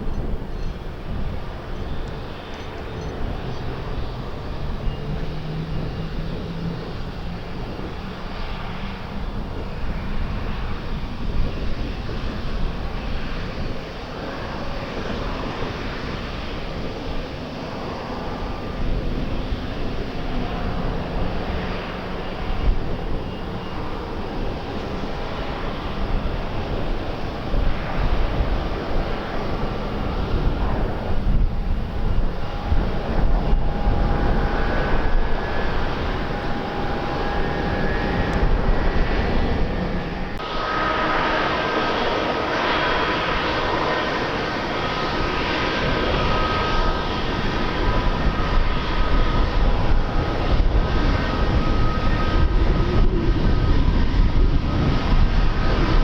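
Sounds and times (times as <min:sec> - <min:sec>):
aircraft engines droning: 0:00.0 - 0:56.0
wind on microphone: 0:00.0 - 0:56.0.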